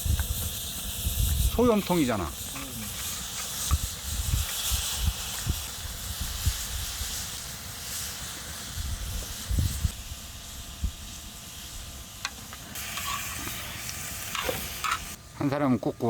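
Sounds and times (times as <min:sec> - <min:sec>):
meat sizzling in fat: 0:00.0 - 0:15.3.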